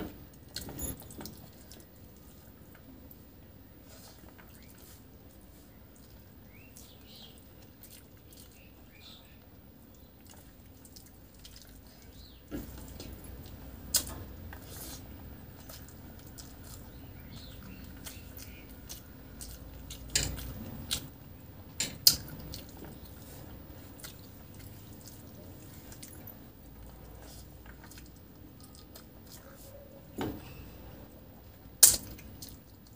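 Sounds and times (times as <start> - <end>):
fingers squishing rice and curry: 0.0 - 32.9
chewing: 0.4 - 21.2, 22.0 - 29.9.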